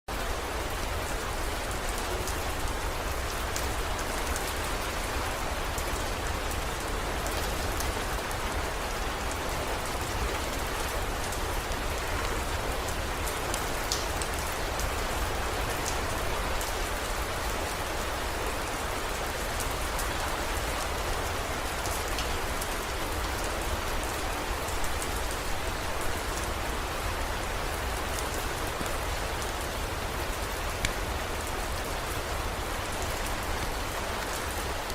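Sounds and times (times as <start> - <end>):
heavy rain pattering: 0.1 - 34.9.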